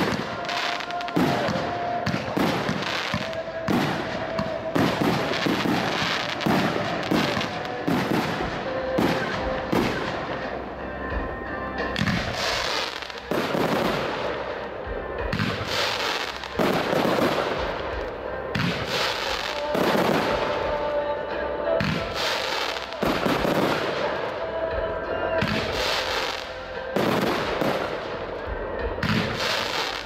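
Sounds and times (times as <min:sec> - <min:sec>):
fireworks bangs: 0:00.0 - 0:10.6, 0:11.8 - 0:21.0, 0:21.8 - 0:28.2.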